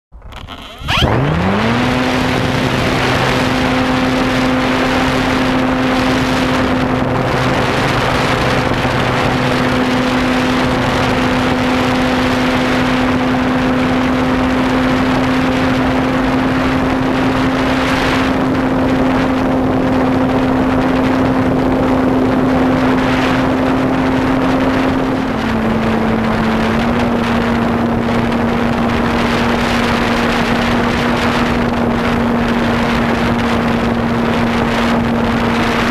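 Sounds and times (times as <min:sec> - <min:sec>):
model plane motor and propeller: 0:00.2 - 0:35.9.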